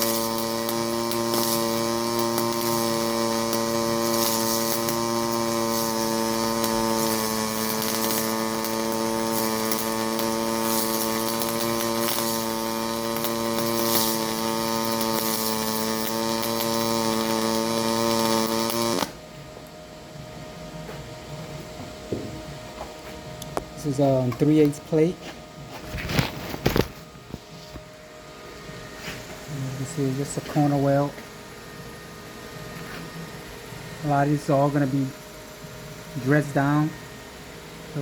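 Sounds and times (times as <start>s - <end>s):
welding arc buzzing: 0.0s - 38.0s.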